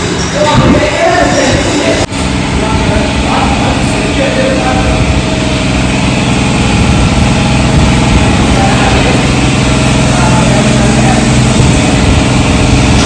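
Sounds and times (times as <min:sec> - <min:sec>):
motorcycle engine running: 0:00.0 - 0:13.0
steady rushing noise: 0:00.0 - 0:13.0.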